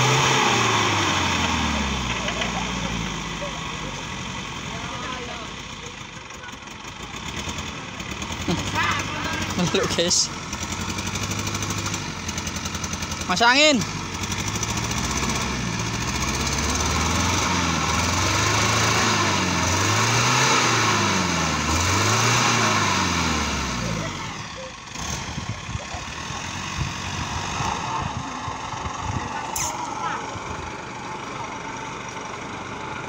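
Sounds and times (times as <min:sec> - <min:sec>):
engine revving: 0:00.0 - 0:05.7, 0:07.1 - 0:30.7.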